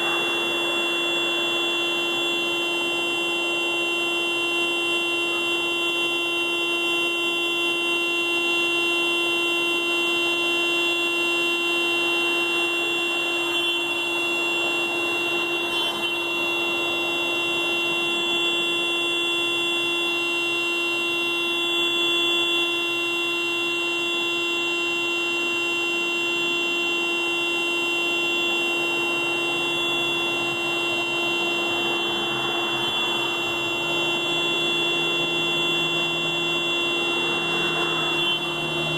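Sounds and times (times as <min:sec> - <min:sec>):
car alarm steady tone: 0:00.0 - 0:38.9.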